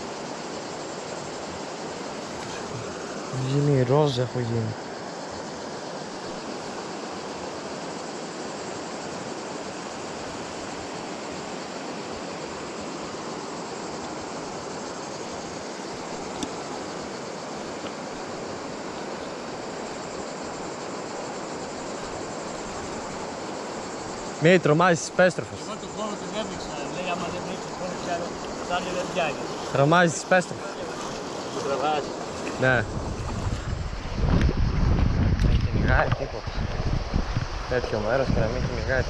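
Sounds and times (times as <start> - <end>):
river water running over stones: 0.0 - 34.0.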